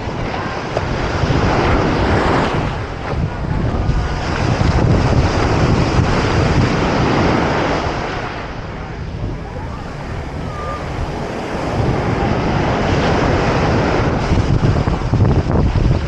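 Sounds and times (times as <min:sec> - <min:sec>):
ocean surf on beach: 0:00.0 - 0:15.3
wind buffeting microphone: 0:00.0 - 0:16.0.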